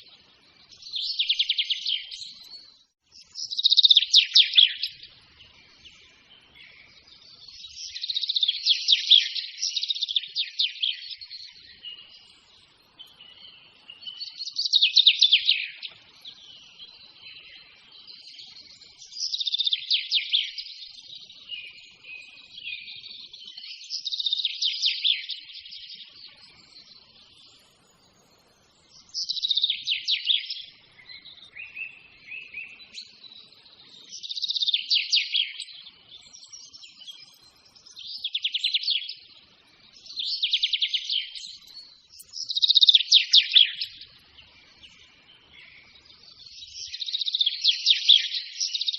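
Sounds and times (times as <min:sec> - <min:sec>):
soft bird twittering: 0:00.0 - 0:48.9
songbird chirping: 0:00.0 - 0:48.9.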